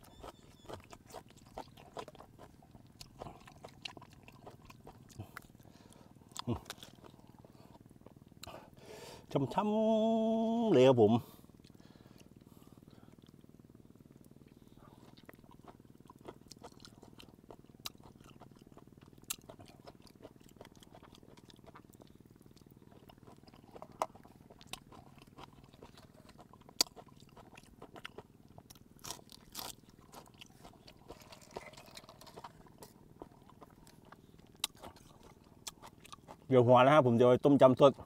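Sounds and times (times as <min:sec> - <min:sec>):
person chewing: 0:00.0 - 0:08.7, 0:14.2 - 0:36.5.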